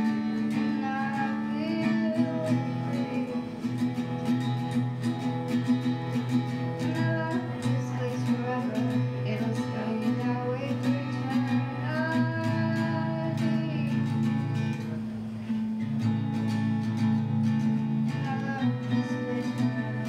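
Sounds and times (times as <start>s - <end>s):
girl singing: 0.0s - 15.1s, 18.0s - 20.0s
acoustic guitar strumming: 0.0s - 20.0s.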